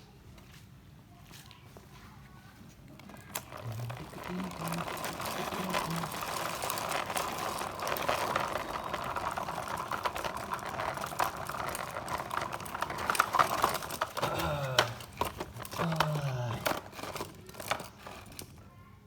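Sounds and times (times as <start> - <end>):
fast crackly clicking and rattling: 2.6 - 18.6
toy car motors whirring: 3.0 - 18.6.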